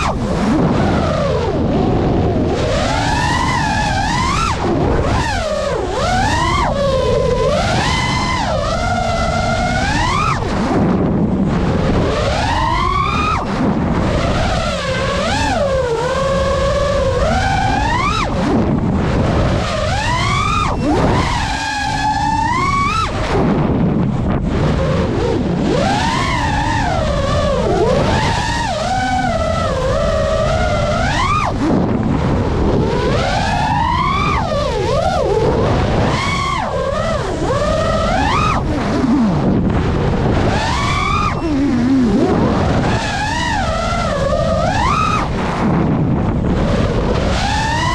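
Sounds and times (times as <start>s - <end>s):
drone motors whining: 0.0s - 47.9s
wind rumble: 0.0s - 47.9s.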